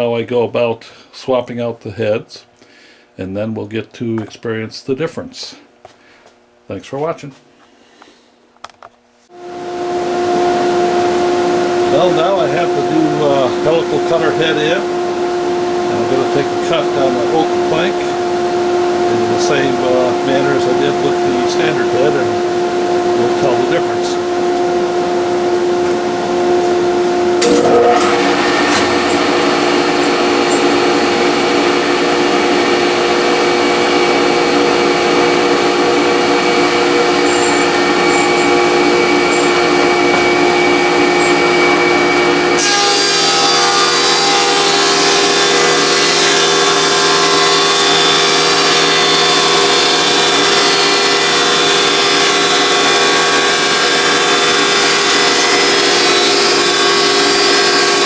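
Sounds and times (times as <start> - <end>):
thickness planer whining: 9.3 - 58.0.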